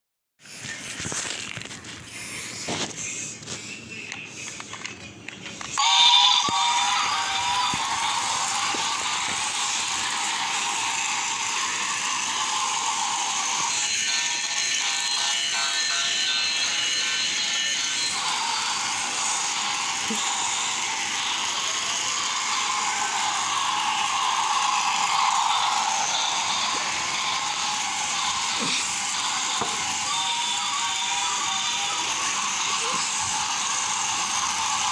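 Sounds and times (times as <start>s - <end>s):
toy train motor whirring: 0.4s - 34.9s
tinny electronic tune: 5.8s - 34.9s.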